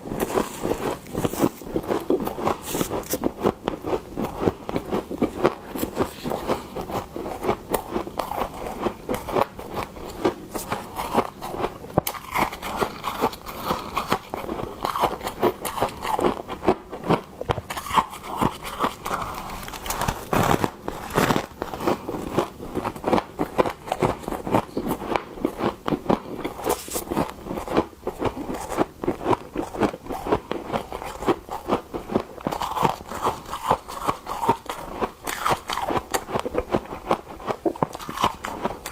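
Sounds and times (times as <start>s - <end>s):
frost crunching and scraping: 0.0s - 16.4s, 17.0s - 36.5s.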